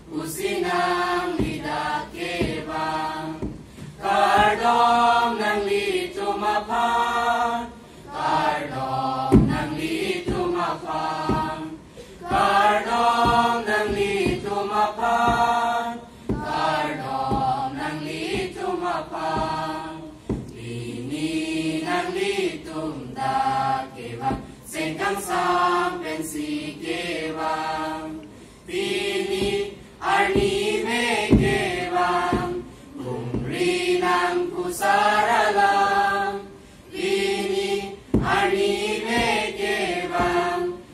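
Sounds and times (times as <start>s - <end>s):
mixed choir singing: 0.0s - 40.9s.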